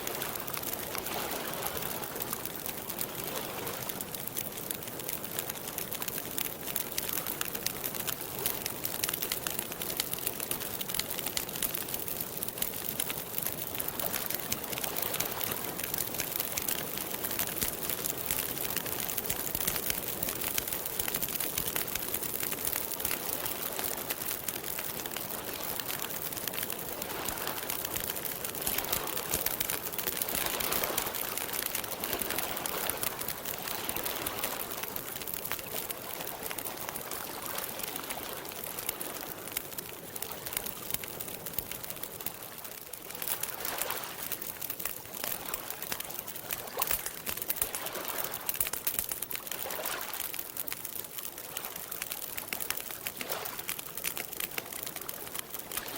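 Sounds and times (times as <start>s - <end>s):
campfire crackling and popping: 0.0s - 55.9s
water gently lapping: 0.0s - 55.9s.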